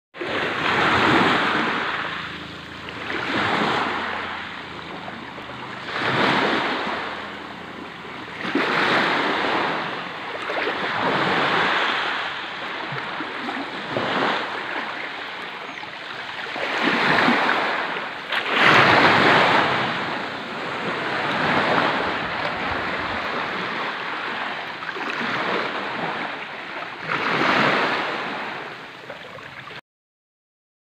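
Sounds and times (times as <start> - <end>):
waves washing on pebble beach: 0.2 - 28.8.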